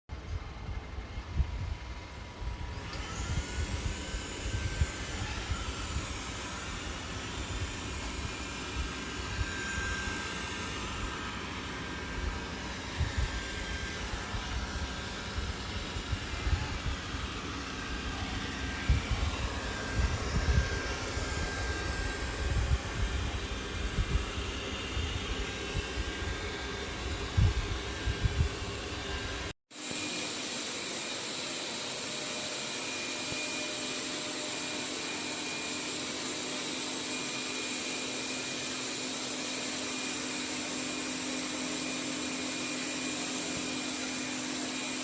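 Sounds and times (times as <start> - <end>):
robot vacuum fan whine: 0.1 - 45.0.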